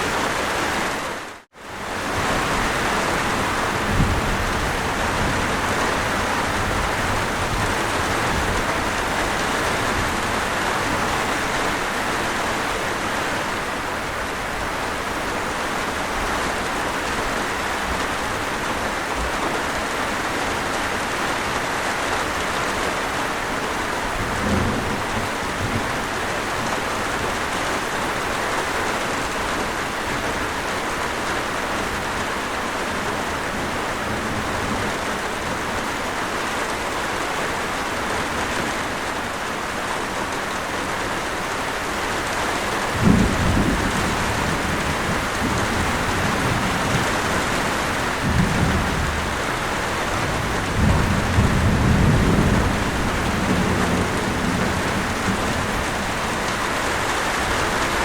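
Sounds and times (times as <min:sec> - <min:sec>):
steady rain on a surface: 0:00.0 - 0:58.0.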